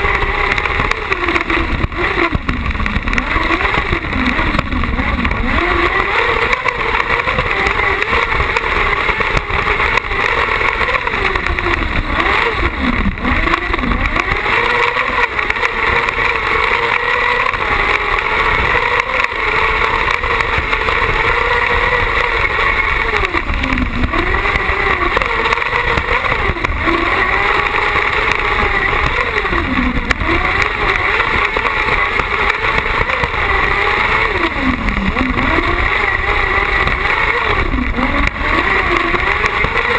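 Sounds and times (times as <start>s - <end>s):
buggy engine at high revs: 0.0s - 39.9s.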